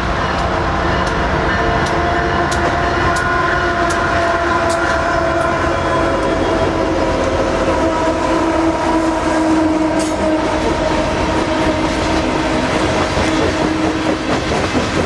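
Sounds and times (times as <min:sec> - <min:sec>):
diesel locomotive passing: 0:00.0 - 0:15.0
train cars rumbling on rails: 0:00.0 - 0:15.0.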